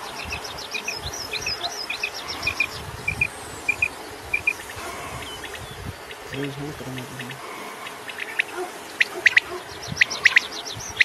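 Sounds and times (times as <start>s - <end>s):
quail singing clipped notes: 0.0s - 11.0s.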